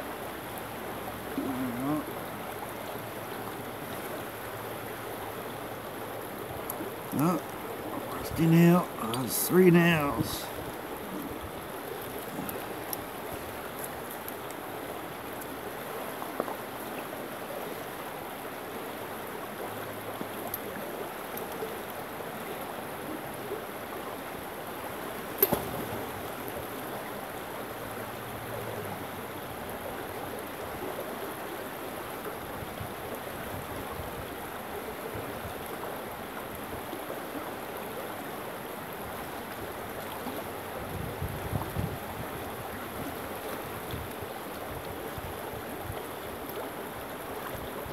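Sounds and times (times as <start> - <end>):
stream rippling over stones: 0.0 - 47.9.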